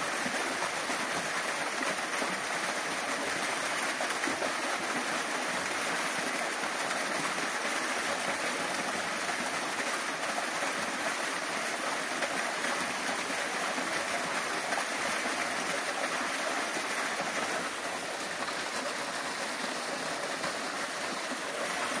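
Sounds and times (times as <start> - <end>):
small waterfall splashing: 0.0 - 22.0.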